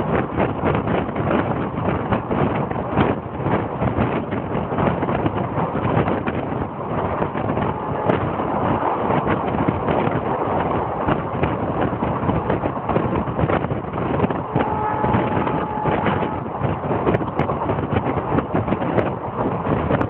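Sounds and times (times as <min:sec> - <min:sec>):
train wheels rumbling and clattering: 0:00.0 - 0:20.0
wind buffeting microphone: 0:00.0 - 0:20.0.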